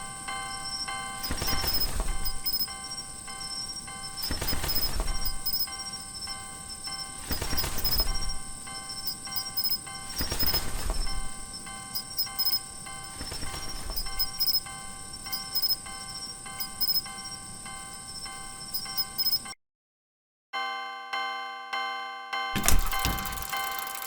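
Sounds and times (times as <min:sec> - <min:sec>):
level-crossing warning bell ringing: 0:00.0 - 0:19.6, 0:20.6 - 0:24.0.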